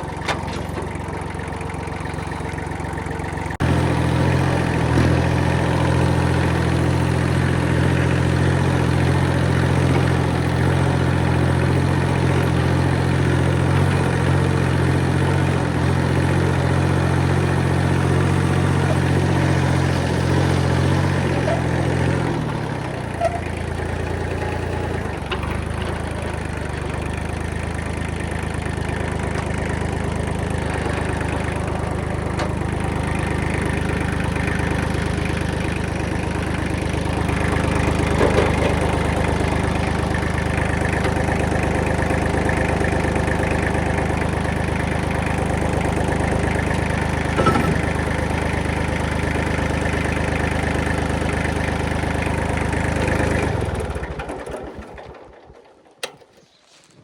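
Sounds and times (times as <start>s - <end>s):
diesel engine running: 0.0s - 56.4s.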